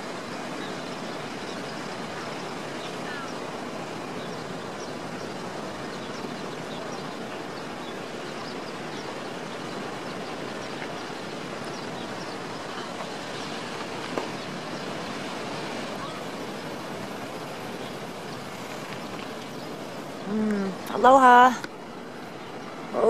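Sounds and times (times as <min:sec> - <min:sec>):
ocean surf: 0:00.0 - 0:23.0
wind: 0:00.0 - 0:23.0.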